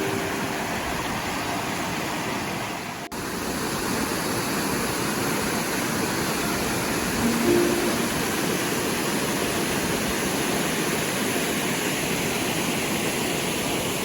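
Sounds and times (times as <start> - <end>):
waterfall and creek rushing: 0.0 - 14.0.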